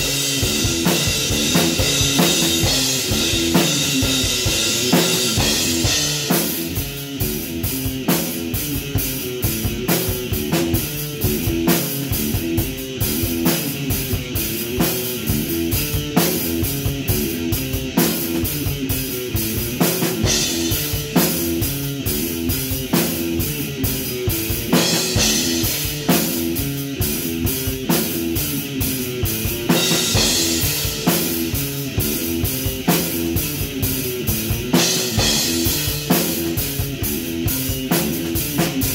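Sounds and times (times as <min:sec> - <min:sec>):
distorted electric guitar riff: 0:00.0 - 0:38.9
drum beat: 0:00.0 - 0:38.9.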